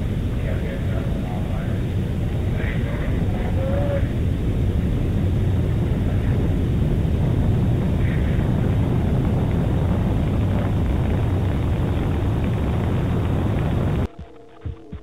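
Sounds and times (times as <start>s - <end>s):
rocket liftoff deep rumble: 0.0s - 14.1s.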